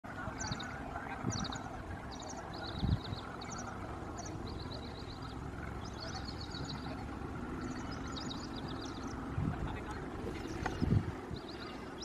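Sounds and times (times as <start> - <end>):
distant train rumble: 0.1 - 12.0.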